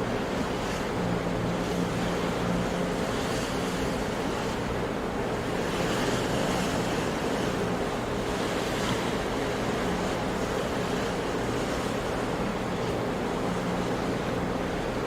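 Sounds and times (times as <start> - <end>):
sea surf washing: 0.0 - 15.0.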